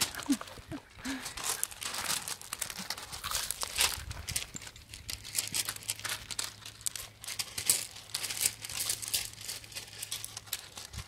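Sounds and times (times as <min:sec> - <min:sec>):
gravel crunching under paws: 0:00.0 - 0:11.0.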